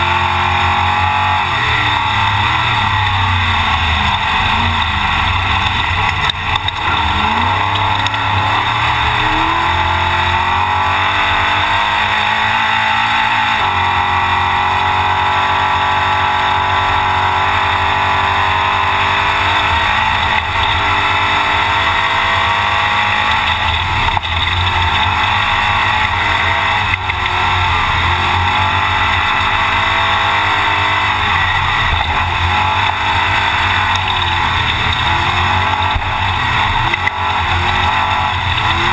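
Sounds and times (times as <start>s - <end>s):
rough-terrain road noise: 0.0s - 38.9s
truck engine revving: 0.0s - 38.9s.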